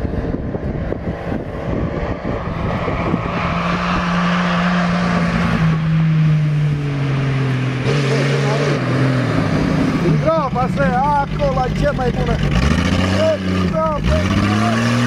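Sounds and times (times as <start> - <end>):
off-road vehicle engine approaching: 0.0 - 15.0.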